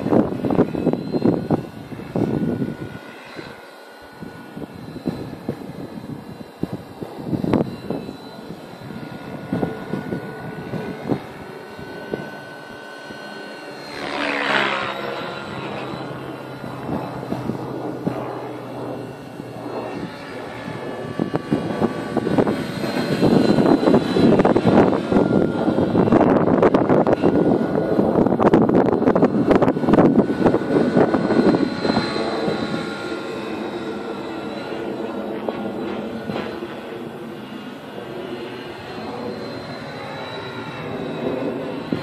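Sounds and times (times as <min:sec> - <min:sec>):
model helicopter motor and rotor whining: 0:00.0 - 0:42.0
wind buffeting microphone: 0:00.0 - 0:42.0.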